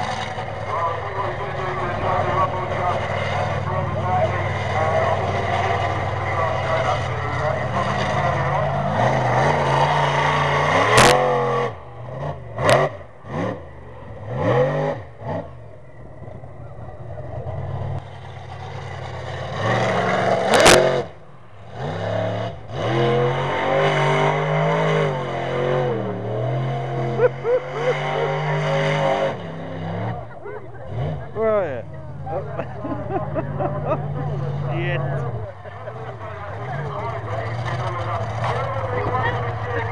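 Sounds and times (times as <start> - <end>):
monster truck engine revving: 0.0 - 39.9.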